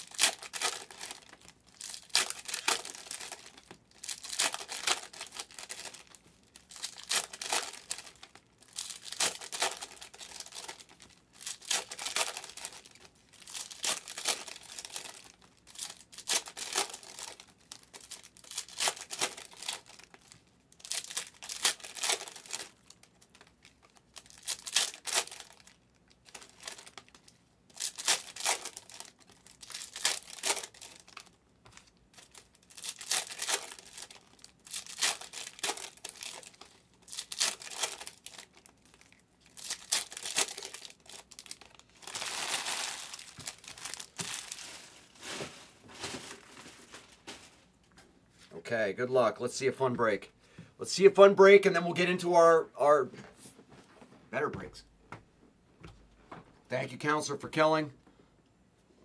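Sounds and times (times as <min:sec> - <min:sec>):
foil wrappers tearing and crinkling: 0:00.0 - 0:47.6.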